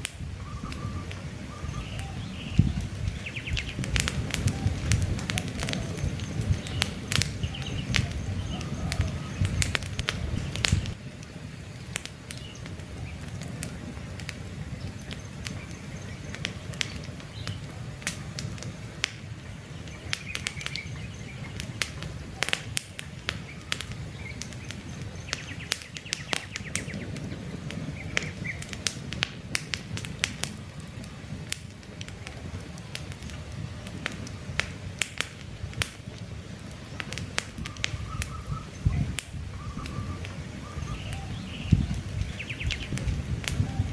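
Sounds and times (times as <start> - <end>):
campfire crackling: 0.0 - 43.9
faint birds chirping: 0.2 - 28.9, 36.8 - 43.9.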